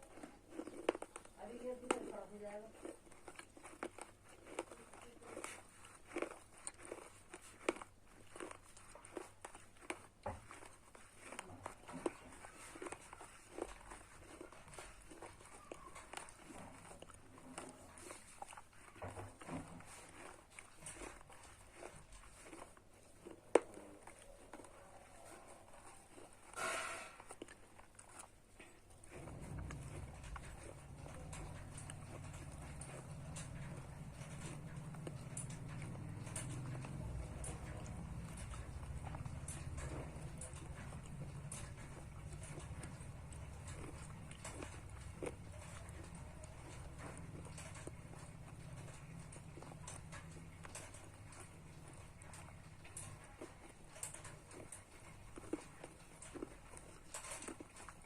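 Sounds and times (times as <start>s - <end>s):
mouth crunching brittle pieces: 0.0s - 51.4s
small crackles: 0.0s - 58.0s.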